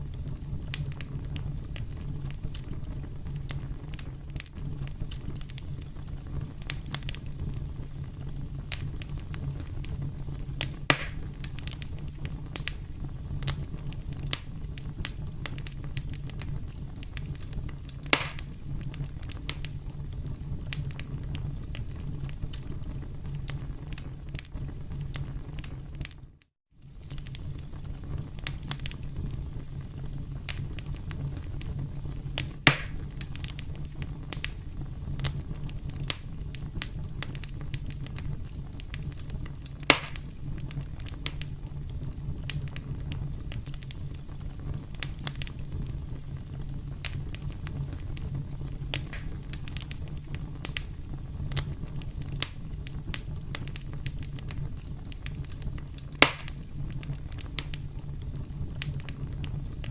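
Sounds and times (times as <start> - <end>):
campfire snapping: 0.0 - 19.7, 26.9 - 29.3, 30.4 - 31.7, 32.4 - 34.6, 35.2 - 45.9, 46.6 - 59.9
burning wood rumbling: 0.0 - 26.1, 26.8 - 59.9
loud campfire pops: 0.0 - 59.9.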